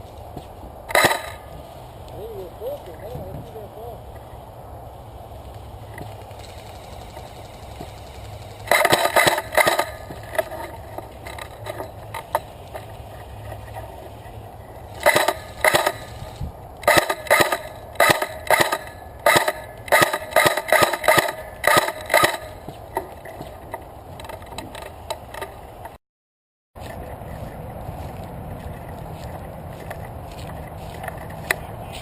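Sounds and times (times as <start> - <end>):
crunching footsteps: 0.0 - 25.6, 26.8 - 32.0.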